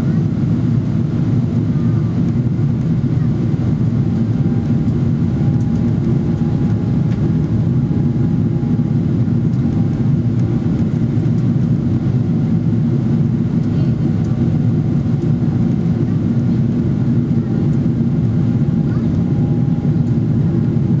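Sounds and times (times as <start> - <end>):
aircraft cabin engine drone: 0.0 - 21.0.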